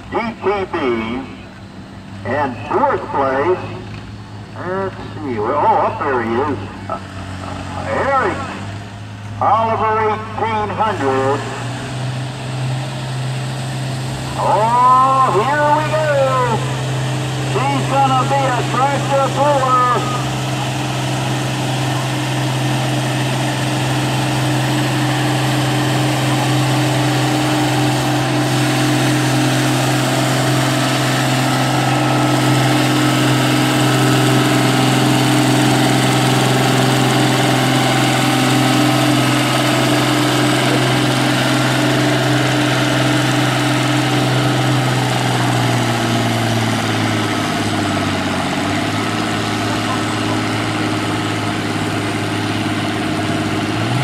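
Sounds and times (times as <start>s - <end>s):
tractor engine under heavy load: 0.0s - 54.0s.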